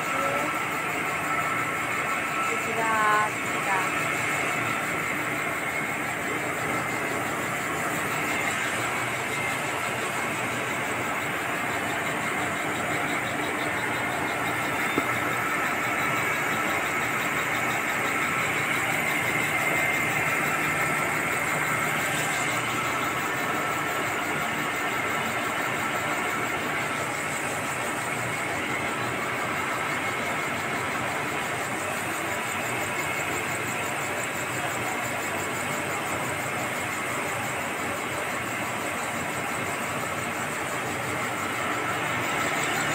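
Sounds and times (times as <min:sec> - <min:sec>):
industrial machinery humming: 0:00.0 - 0:42.9.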